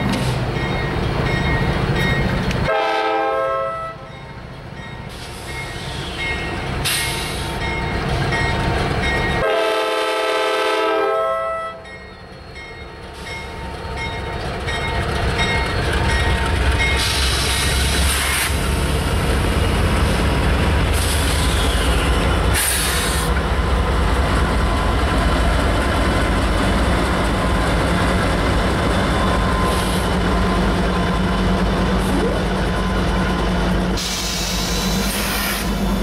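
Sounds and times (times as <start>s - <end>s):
diesel locomotive engines droning: 0.0s - 36.0s.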